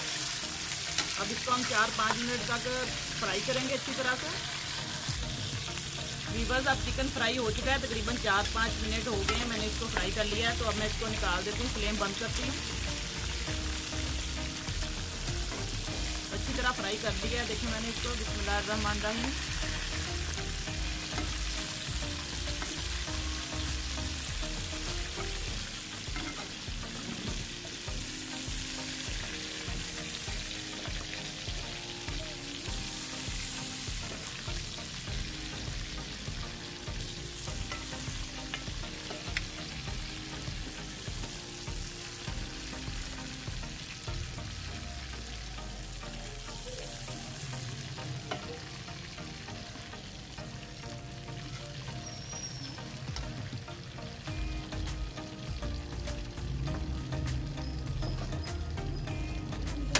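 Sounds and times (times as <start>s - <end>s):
chicken sizzling in hot fat: 0.0s - 59.9s.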